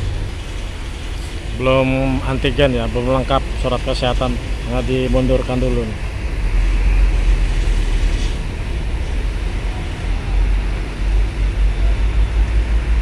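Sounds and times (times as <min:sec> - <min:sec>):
car engine running at low speed: 0:00.0 - 0:13.0
heavy low rumble: 0:00.0 - 0:13.0.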